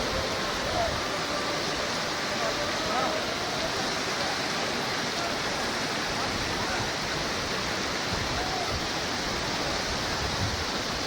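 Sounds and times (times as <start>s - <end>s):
flood water rushing: 0.0s - 11.0s.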